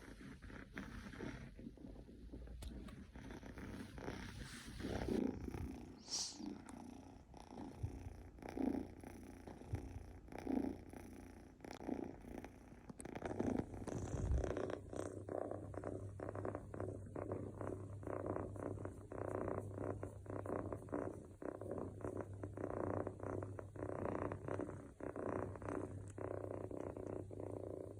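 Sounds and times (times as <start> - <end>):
kitten purring: 0.0 - 27.9
kitten snoring softly: 0.0 - 27.9.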